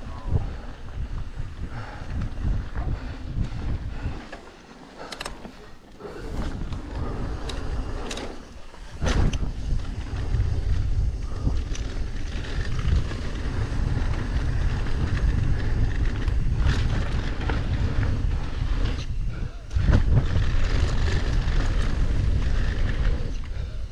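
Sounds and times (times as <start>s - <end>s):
tyres rolling on dirt: 0.0s - 23.8s
wind buffeting microphone: 0.0s - 23.9s.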